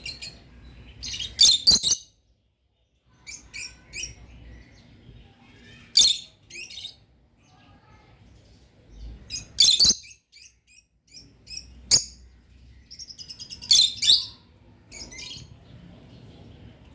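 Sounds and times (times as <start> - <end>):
lovebirds chirping: 0.0 - 2.3, 3.0 - 16.9.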